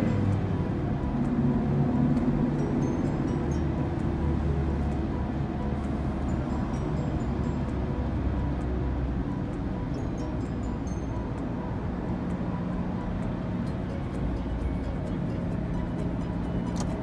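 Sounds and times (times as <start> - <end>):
vehicle engine and tyre rumble: 0.0 - 17.0.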